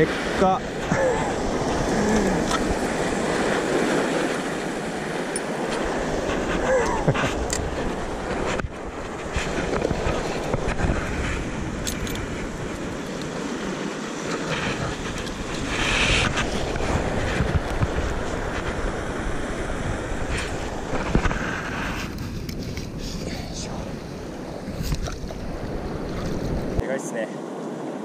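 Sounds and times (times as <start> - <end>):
wind buffeting microphone: 0.0 - 26.8
surf breaking over rocks: 0.0 - 27.2.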